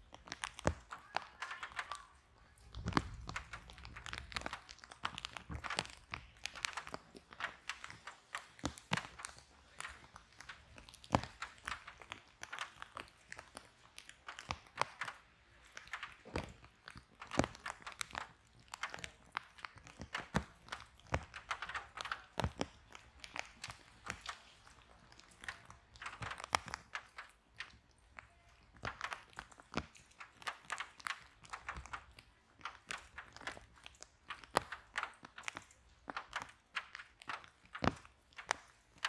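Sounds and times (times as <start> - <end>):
sharp pops and snaps: 0.0 - 39.0
wood fire crackling: 0.0 - 39.0.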